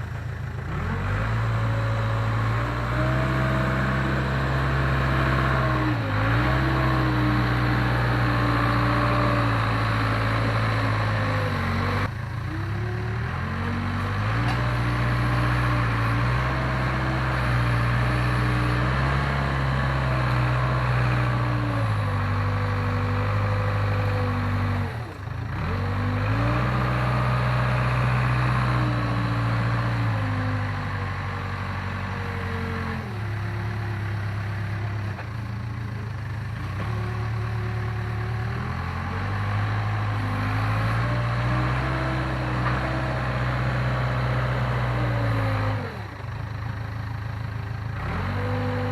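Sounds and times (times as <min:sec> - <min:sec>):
diesel engine working: 0:00.0 - 0:48.9.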